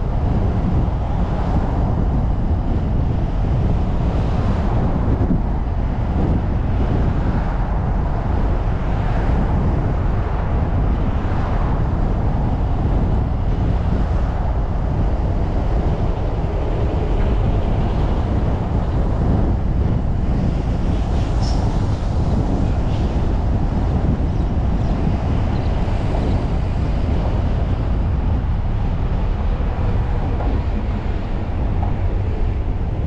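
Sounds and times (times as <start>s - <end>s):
car road and engine rumble: 0.0s - 33.0s
wind buffeting microphone: 0.0s - 33.0s.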